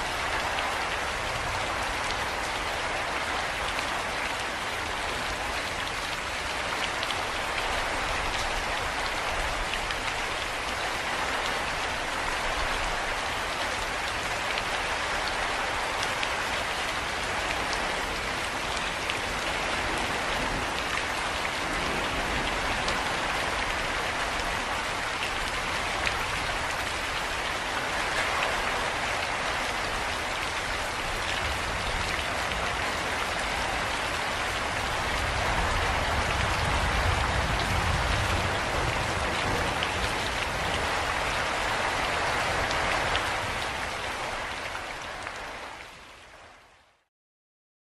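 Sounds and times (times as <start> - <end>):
steady rainfall hiss: 0.0 - 47.0.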